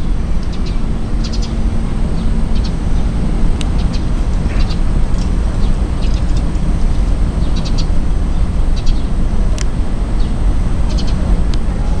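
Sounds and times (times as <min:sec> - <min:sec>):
low outdoor rumble: 0:00.0 - 0:12.0
small birds chirping: 0:00.0 - 0:12.0.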